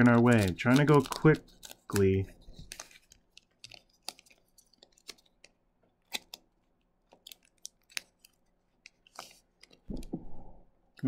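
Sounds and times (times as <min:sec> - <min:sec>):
plastic wrapper crackling: 0:00.0 - 0:10.1.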